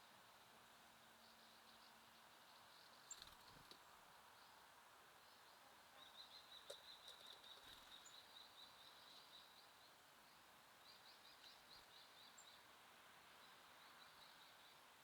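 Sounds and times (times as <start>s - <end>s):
soft outdoor hiss: 0.0s - 15.0s
small songbirds chirping: 0.6s - 15.0s.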